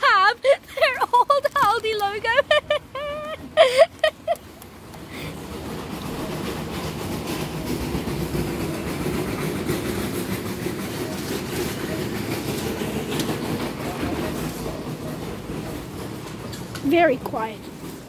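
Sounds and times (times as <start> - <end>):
shopping trolley wheels rattling: 0.0 - 18.0.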